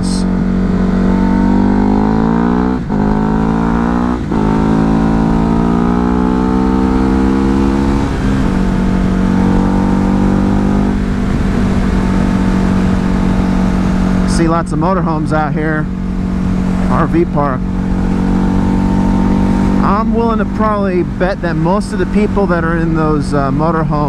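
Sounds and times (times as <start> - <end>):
wind rumbling on microphone: 0.0 - 23.9
motorcycle engine accelerating: 0.0 - 24.0.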